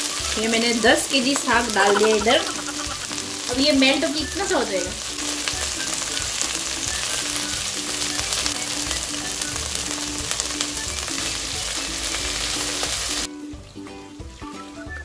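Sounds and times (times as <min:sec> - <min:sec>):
greens sizzling in hot fat: 0:00.0 - 0:13.3.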